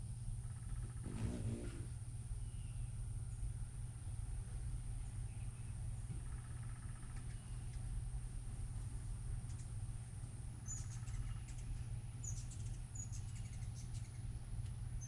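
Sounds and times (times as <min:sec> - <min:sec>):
hummingbirds chirping: 0:00.0 - 0:15.0
steady low hum: 0:00.0 - 0:15.0.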